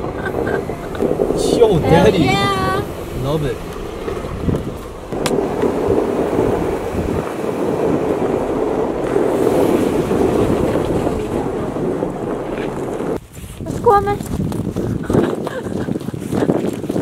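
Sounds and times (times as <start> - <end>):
engine and tyres rumbling: 0.0 - 17.0
wind buffeting microphone: 0.0 - 17.0.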